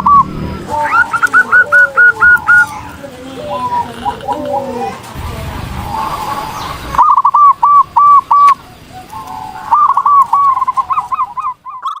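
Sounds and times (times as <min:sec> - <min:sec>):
bird trilling: 0:00.0 - 0:05.1, 0:05.7 - 0:12.0
dove cooing: 0:00.0 - 0:12.0.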